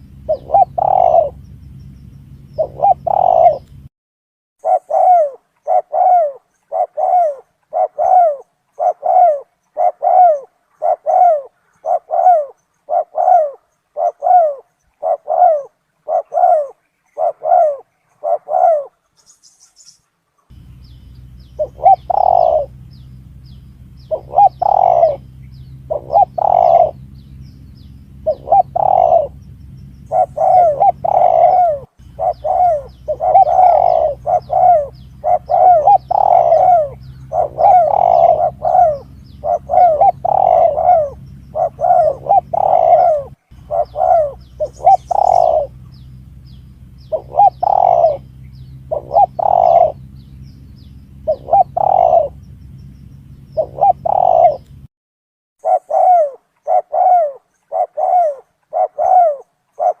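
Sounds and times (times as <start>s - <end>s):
dove cooing: 0.0s - 3.9s, 4.6s - 19.4s, 20.5s - 54.9s, 55.6s - 60.0s
steady low hum: 0.0s - 3.9s, 4.6s - 54.9s.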